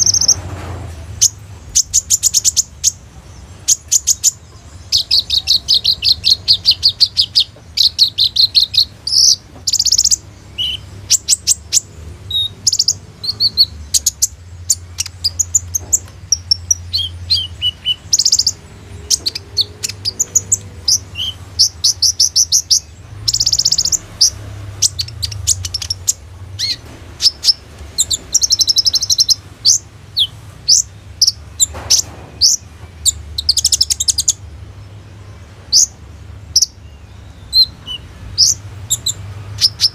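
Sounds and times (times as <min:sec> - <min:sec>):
bird trilling and chirping: 0:00.0 - 0:39.9.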